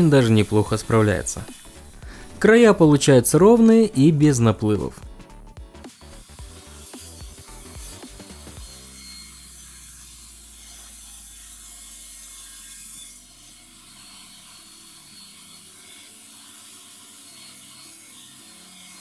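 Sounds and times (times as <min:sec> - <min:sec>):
table saw cutting acrylic: 0:00.0 - 0:05.0, 0:05.8 - 0:19.0.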